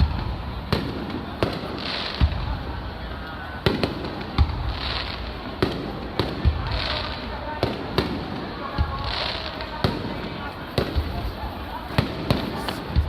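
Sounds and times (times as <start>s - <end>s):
fireworks bursting with bangs: 0.0s - 13.0s.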